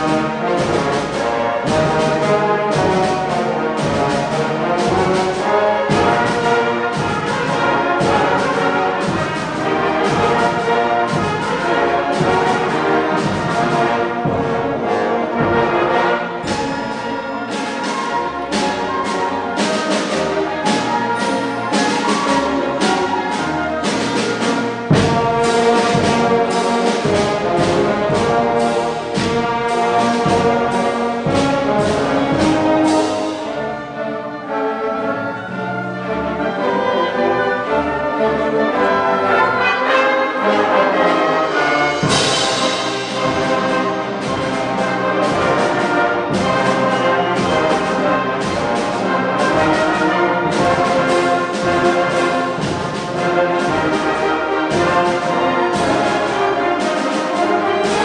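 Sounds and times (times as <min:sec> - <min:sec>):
brass: 0:00.0 - 0:58.0
orchestra playing: 0:00.0 - 0:58.0
strings: 0:00.0 - 0:58.0.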